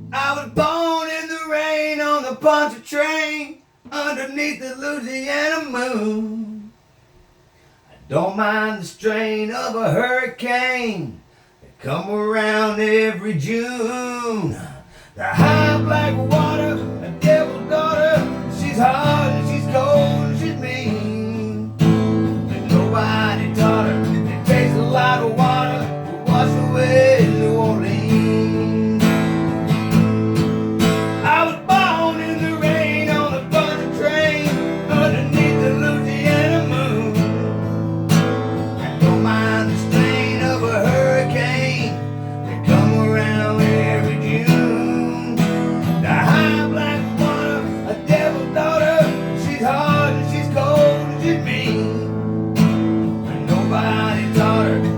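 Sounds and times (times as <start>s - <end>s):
acoustic guitar strumming chords: 0.0s - 3.2s, 12.4s - 54.9s.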